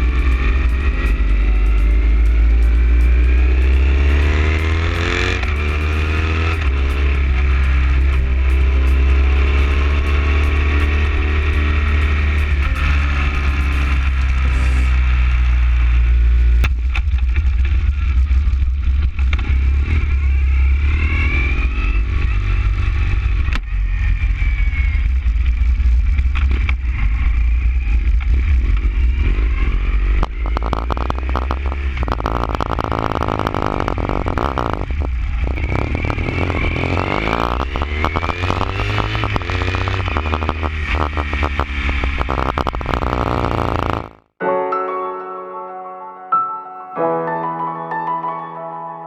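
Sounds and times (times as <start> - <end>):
motorcycle engine revving: 0.0 - 44.4.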